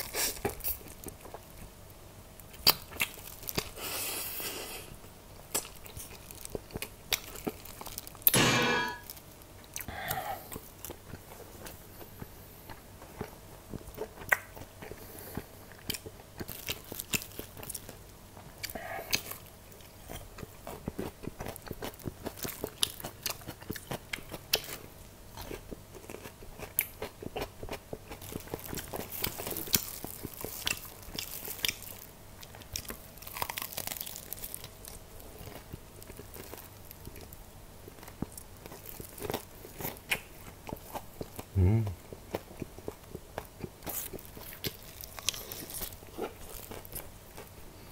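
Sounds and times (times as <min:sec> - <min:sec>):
person crunching fried chicken: 0:02.4 - 0:04.3, 0:05.4 - 0:08.3, 0:13.7 - 0:47.7.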